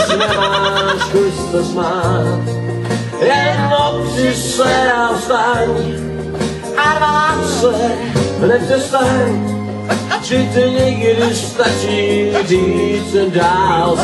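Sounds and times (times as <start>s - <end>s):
held bass notes: 0.0s - 14.0s.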